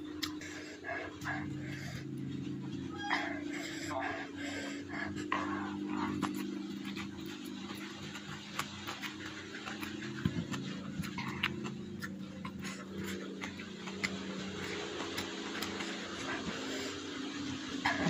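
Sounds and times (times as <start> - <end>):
chewing and mouth sounds: 0.0 - 18.0
steady low hum: 0.0 - 18.0.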